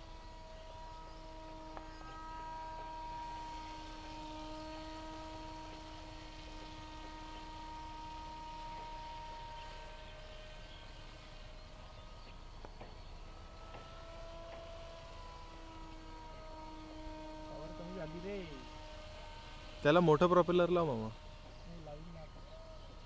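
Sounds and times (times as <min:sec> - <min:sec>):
model plane motor droning: 0:00.0 - 0:23.0.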